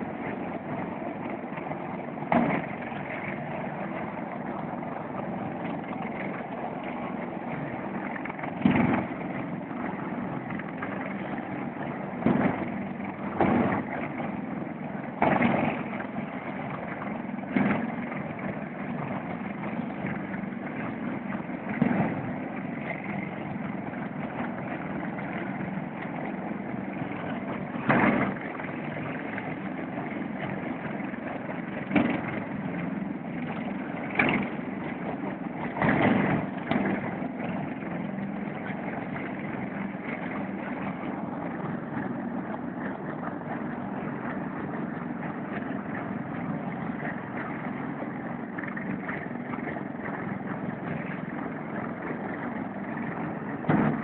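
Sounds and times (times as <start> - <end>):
heavy engine droning: 0.0 - 54.0.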